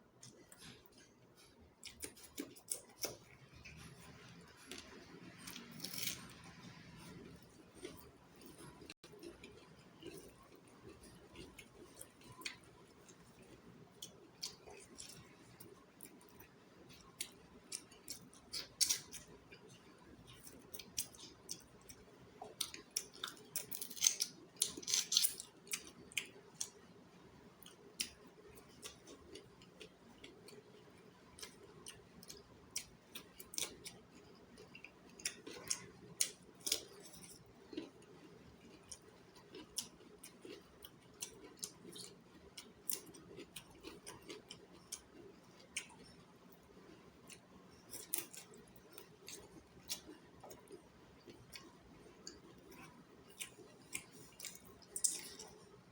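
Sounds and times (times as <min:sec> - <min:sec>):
wet chewing and crunching: 0:00.1 - 0:55.9.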